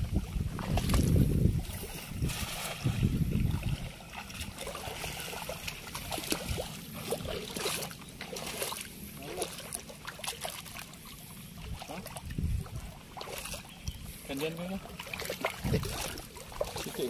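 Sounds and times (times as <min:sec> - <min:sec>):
river water sloshing around legs: 0:00.0 - 0:17.0
water trickling: 0:00.0 - 0:17.0.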